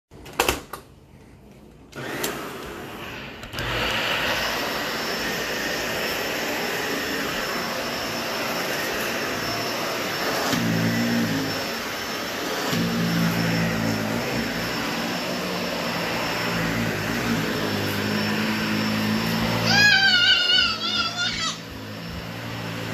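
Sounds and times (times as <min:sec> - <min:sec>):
vacuum cleaner running over carpet: 0:02.0 - 0:22.9.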